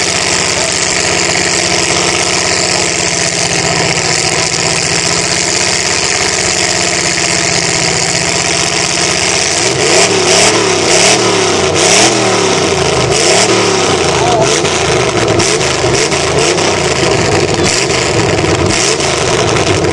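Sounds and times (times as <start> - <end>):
pickup truck engine revving: 0.0 - 19.9
tires spinning in mud: 0.0 - 19.9.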